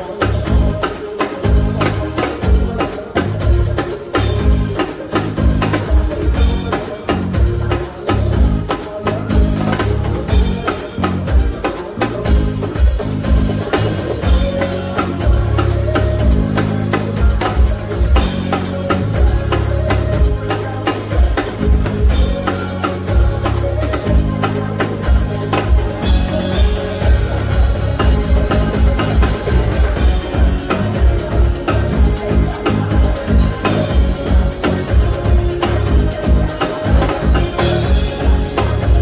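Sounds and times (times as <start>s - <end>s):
drum kit beat: 0.0s - 39.0s
heavy bass line: 0.0s - 39.0s
live band playing: 0.0s - 39.0s.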